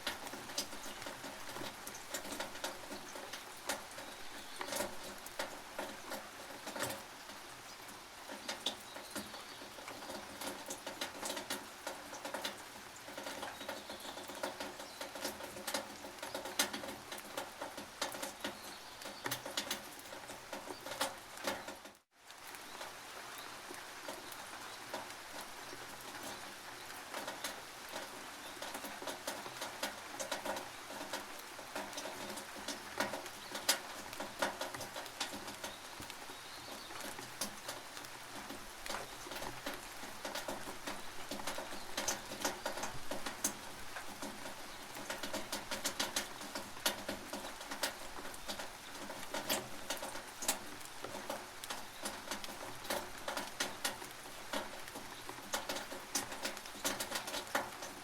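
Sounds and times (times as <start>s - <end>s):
rain hissing on tin roof: 0.0s - 58.0s.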